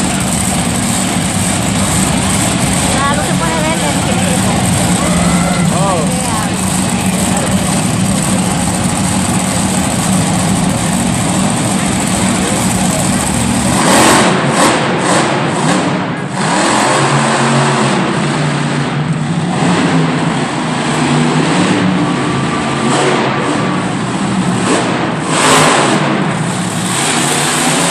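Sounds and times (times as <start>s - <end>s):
monster truck engine revving: 0.0s - 27.9s.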